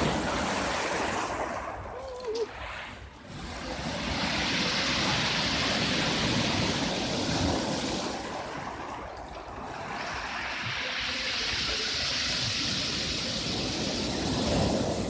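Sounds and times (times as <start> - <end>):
storm waves breaking on shore: 0.0 - 15.0.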